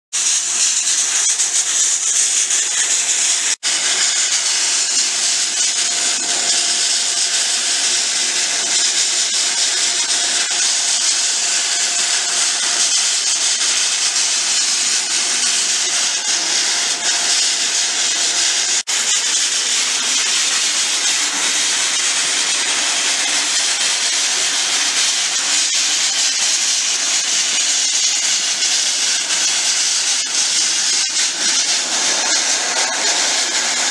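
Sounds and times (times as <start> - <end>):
abrasive blasting hiss: 0.1 - 33.9.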